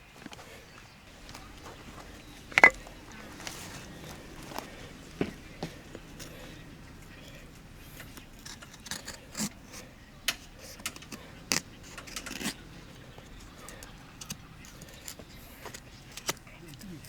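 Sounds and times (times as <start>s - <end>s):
low steady background noise: 0.0s - 17.0s
objects clinking and knocking: 0.3s - 16.5s.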